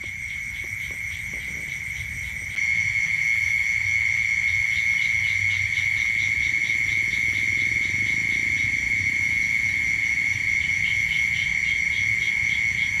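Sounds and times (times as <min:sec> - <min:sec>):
insects pulsing chirp: 0:00.0 - 0:13.0
insects trilling: 0:00.0 - 0:13.0.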